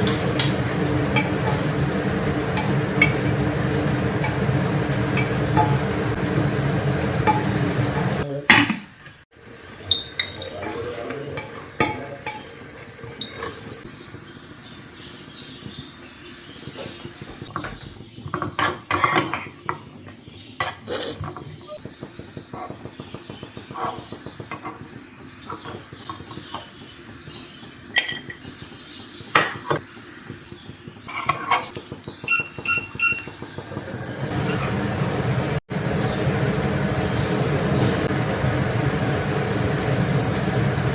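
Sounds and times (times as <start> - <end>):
light sizzle: 0.0 - 8.2, 8.9 - 40.9
mechanical hum: 0.0 - 40.9.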